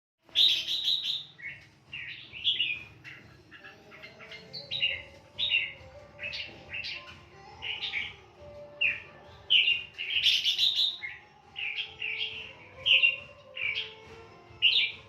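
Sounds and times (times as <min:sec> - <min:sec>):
songbird singing: 0:00.2 - 0:15.0.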